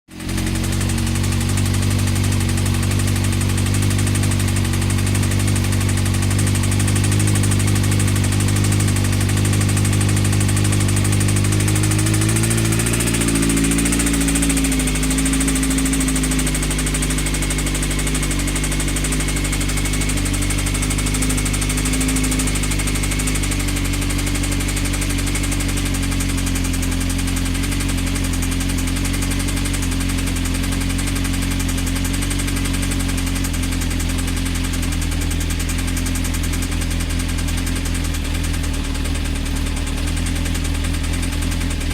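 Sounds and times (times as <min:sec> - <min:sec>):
motorcycle engine knocking: 0:00.1 - 0:41.9.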